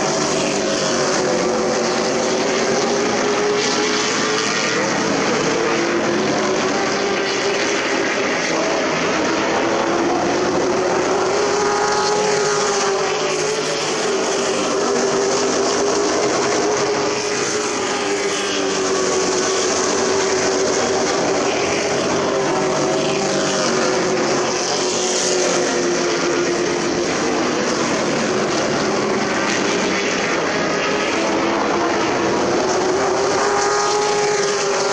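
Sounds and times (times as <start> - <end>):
racing truck engines droning: 0.0 - 34.9.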